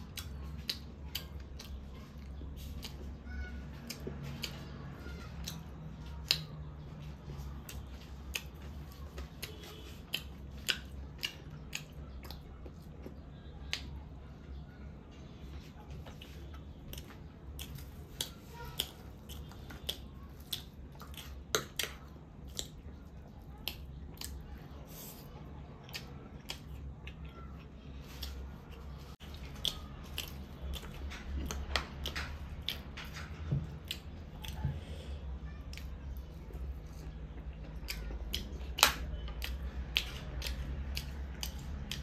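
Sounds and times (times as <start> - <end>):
person crunching and chewing food: 0.0 - 42.0.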